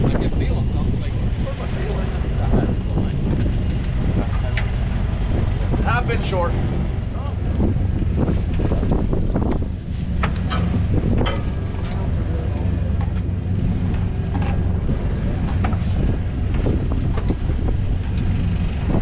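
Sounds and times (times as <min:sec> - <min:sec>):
boat engine idling: 0:00.0 - 0:19.0
wind buffeting microphone: 0:00.0 - 0:19.0.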